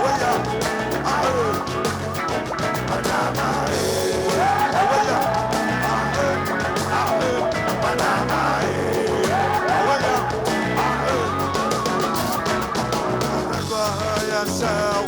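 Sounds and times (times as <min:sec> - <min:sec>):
rock band instrumental: 0:00.0 - 0:15.0.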